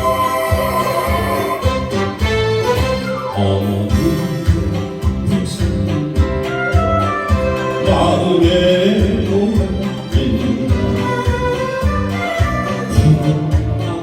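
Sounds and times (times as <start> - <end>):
polka music with bouncing beat: 0.0 - 14.0.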